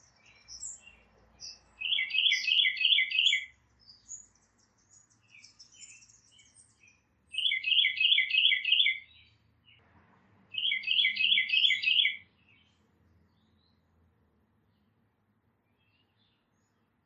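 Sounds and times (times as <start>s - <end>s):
faint high bird chirps: 0.0s - 9.8s, 10.5s - 13.9s, 15.6s - 17.0s.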